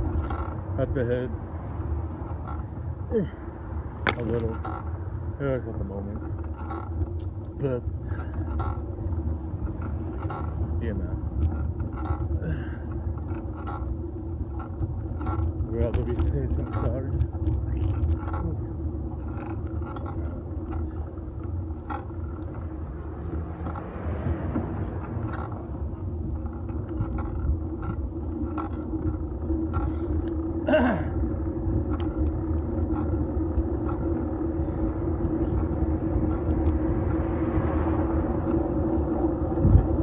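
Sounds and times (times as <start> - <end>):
bike road rumble: 0.0 - 40.0
light clicks and knocks: 4.0 - 5.1, 5.8 - 30.5, 31.2 - 37.8.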